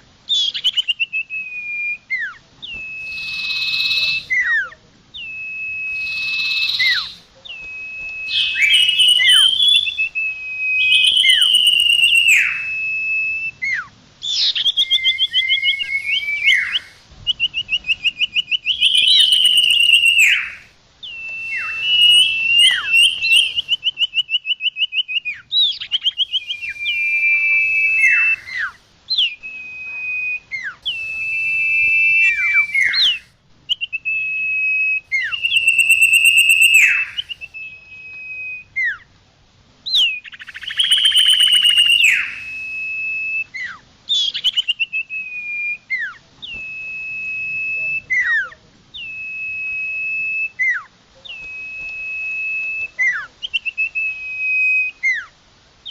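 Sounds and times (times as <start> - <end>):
bird singing whistles and trills: 0.3 - 39.1, 39.8 - 55.9.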